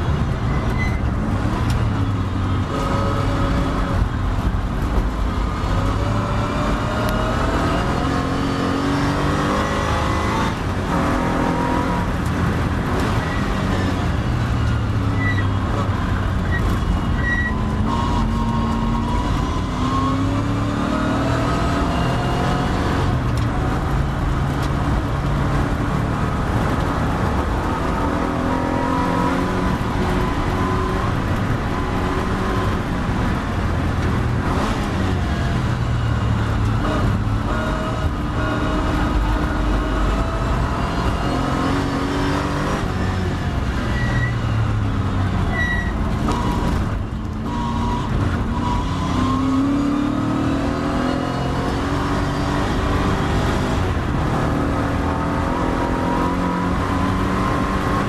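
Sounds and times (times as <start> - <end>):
race car engine revving: 0.0 - 58.0
wind and road noise: 0.0 - 58.0.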